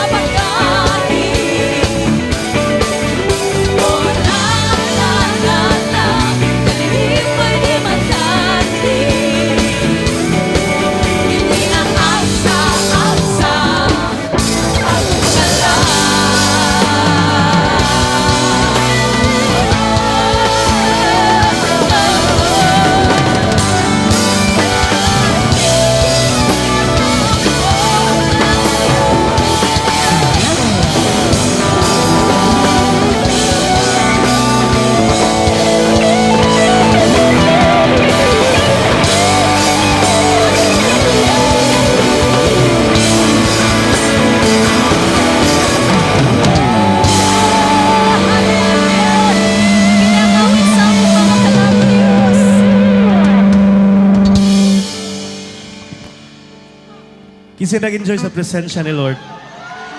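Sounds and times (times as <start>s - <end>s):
electric guitar: 0.0s - 58.4s
band playing rock music: 0.0s - 59.9s.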